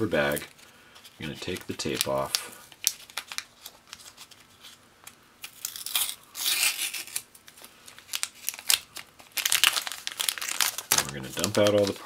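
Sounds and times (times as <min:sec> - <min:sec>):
tape being peeled off: 0:01.2 - 0:12.0.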